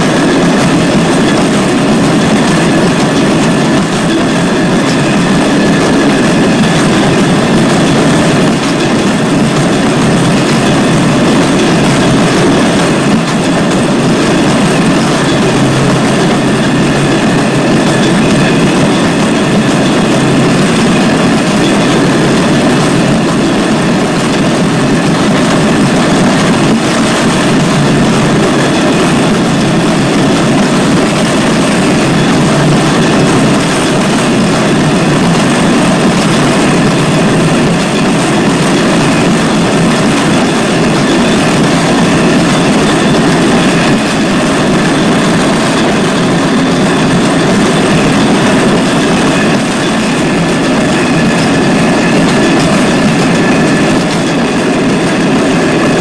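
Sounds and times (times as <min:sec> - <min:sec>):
train wheels running on rail: 0:00.0 - 0:56.0.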